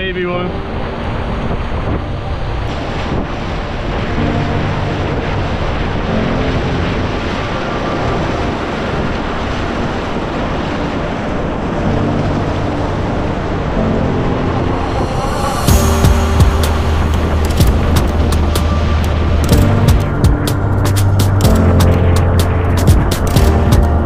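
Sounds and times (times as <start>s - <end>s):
wind buffeting microphone: 0.0s - 24.0s
whitewater rapids rushing: 2.4s - 24.0s.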